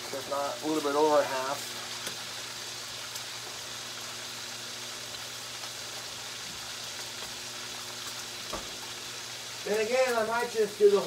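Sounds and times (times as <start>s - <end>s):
bacon sizzling in a skillet: 0.0s - 11.0s
faint pops of frying: 1.6s - 11.0s.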